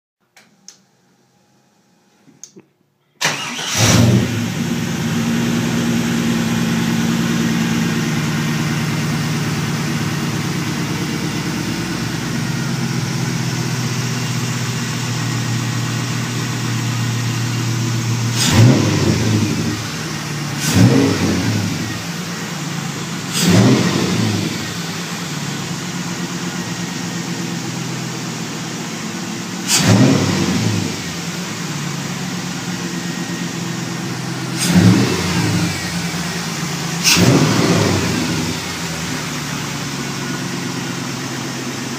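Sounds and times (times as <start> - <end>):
car engine starting and revving: 3.2 - 41.9.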